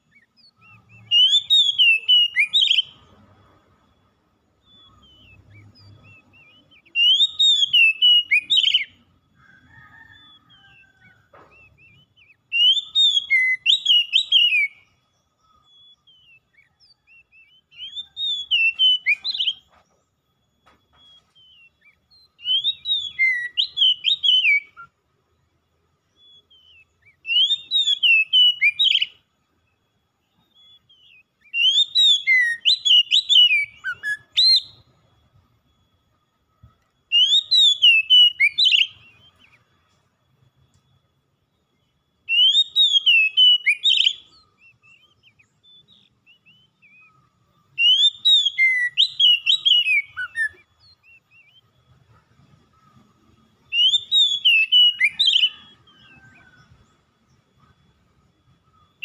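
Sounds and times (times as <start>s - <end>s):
bird singing whistled notes: 0.0s - 59.0s.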